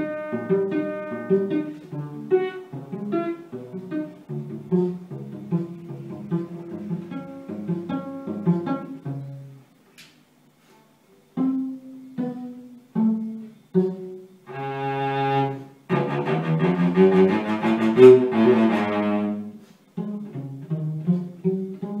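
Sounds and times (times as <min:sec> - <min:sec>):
bowed cello: 0:00.0 - 0:09.6, 0:11.4 - 0:22.0.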